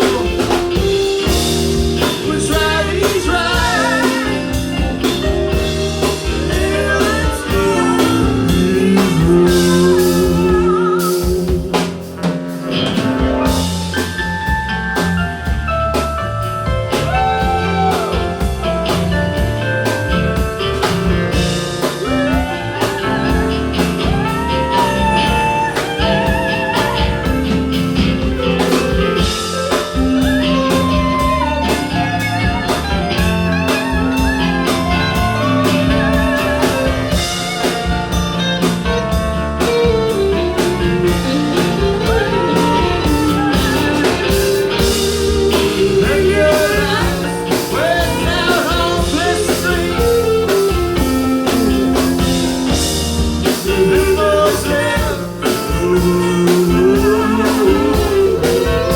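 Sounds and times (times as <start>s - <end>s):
lead guitar bending notes: 0.0s - 55.0s, 55.7s - 58.9s
bass guitar: 0.0s - 58.9s
drum kit beat: 0.0s - 58.9s.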